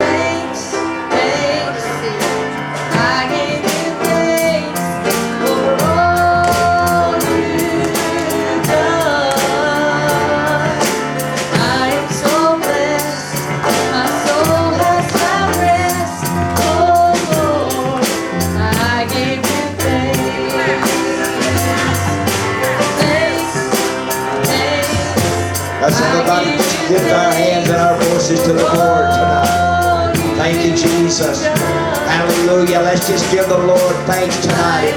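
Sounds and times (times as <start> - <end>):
band accompaniment: 0.0 - 34.9
drum kit steady beat: 0.0 - 34.9
woman singing gospel song: 0.0 - 34.9.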